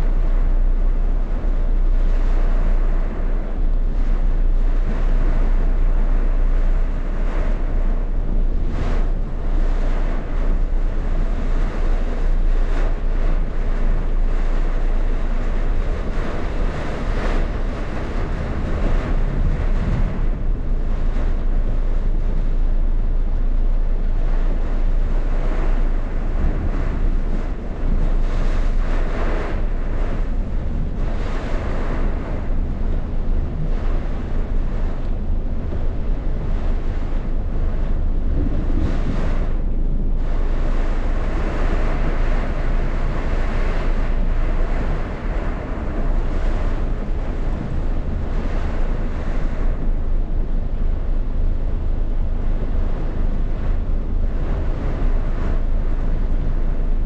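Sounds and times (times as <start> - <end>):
gusting wind: 0.0 - 57.0
wind buffeting microphone: 0.0 - 57.0.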